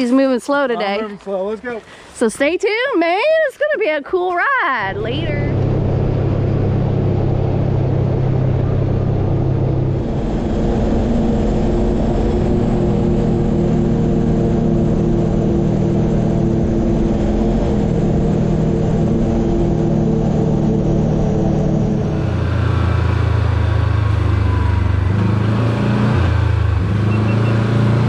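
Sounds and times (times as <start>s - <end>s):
vehicle engine droning: 4.8s - 28.0s.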